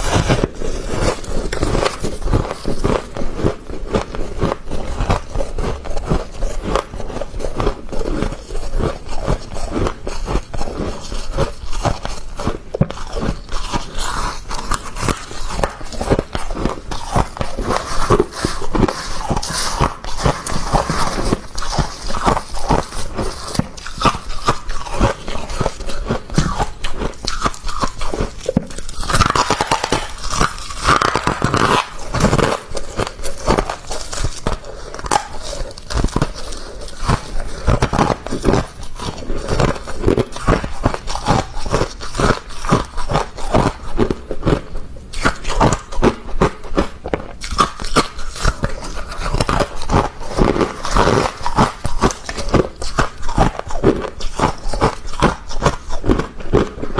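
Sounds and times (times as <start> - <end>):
crunching and chewing frost: 0.0 - 56.9.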